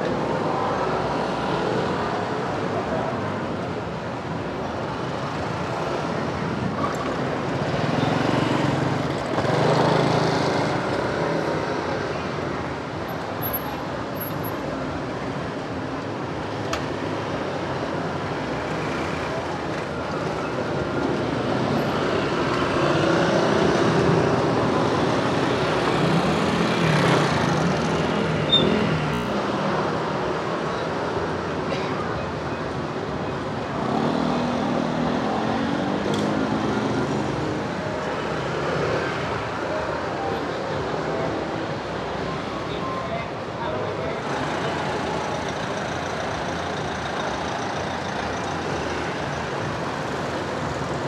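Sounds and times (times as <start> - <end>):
passing motor vehicles: 0.0 - 51.0.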